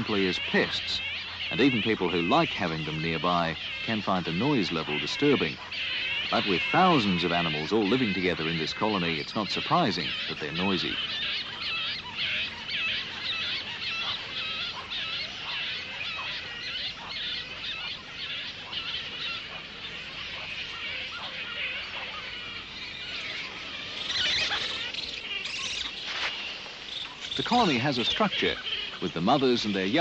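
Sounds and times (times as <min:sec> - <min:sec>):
flying foxes squealing and chattering: 0:00.0 - 0:30.0.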